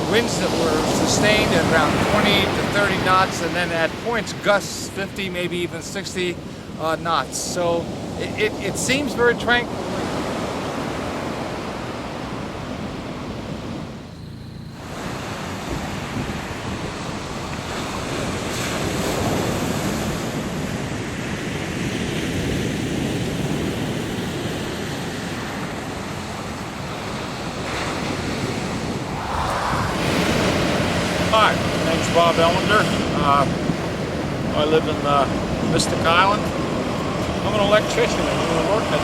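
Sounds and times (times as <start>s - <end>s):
ocean surf washing on beach: 0.0s - 14.0s, 14.8s - 39.0s
wind buffeting microphone: 0.0s - 39.0s.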